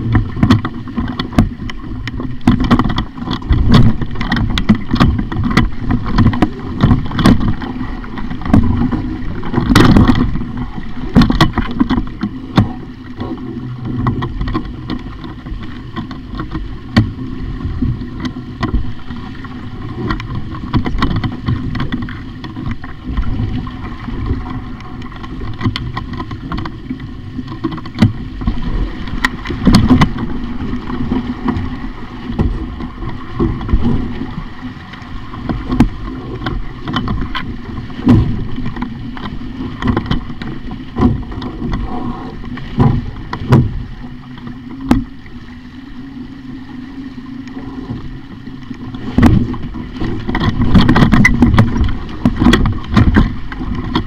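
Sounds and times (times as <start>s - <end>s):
sharp knocks from a boat: 0.0s - 45.4s, 47.3s - 54.0s
water rushing along a hull: 0.0s - 54.0s
wind on the microphone: 0.0s - 54.0s.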